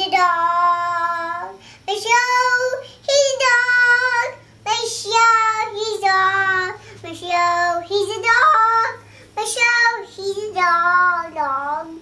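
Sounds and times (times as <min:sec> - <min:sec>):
toddler singing: 0:00.0 - 0:12.0.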